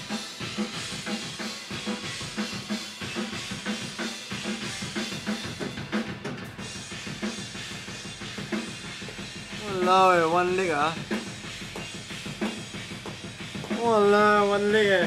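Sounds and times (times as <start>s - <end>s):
cymbals: 0.0s - 15.0s
kick and snare drum beat: 0.0s - 15.0s.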